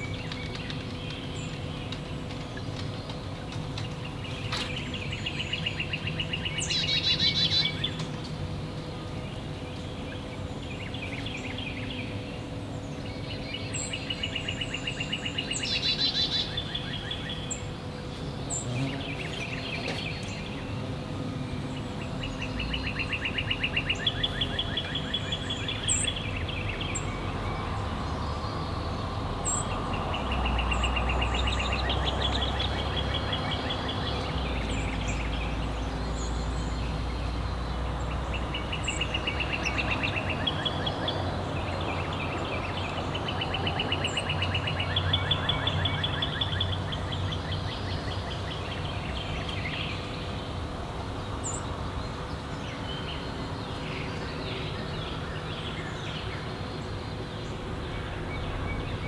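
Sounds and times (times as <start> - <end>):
songbird trills: 0.0 - 59.0.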